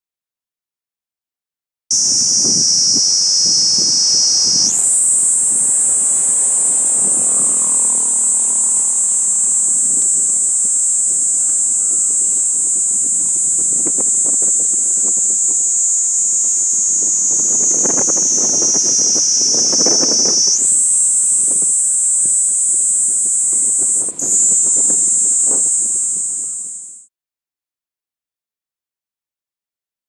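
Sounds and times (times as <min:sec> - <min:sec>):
cicada buzzing: 0:01.9 - 0:27.1.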